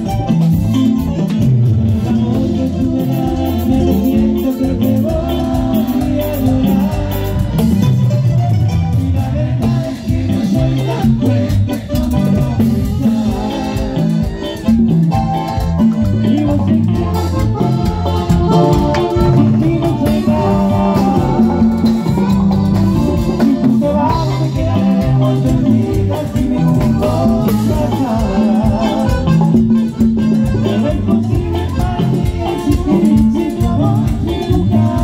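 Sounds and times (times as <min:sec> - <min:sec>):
accordion: 0:00.0 - 0:35.0
keyboard: 0:00.0 - 0:35.0
man singing: 0:00.0 - 0:35.0.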